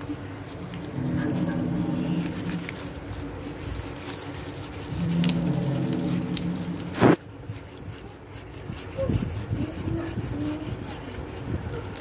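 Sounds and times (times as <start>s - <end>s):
low steady hum: 0.0s - 12.0s
tissue rubbing on paper: 0.4s - 12.0s.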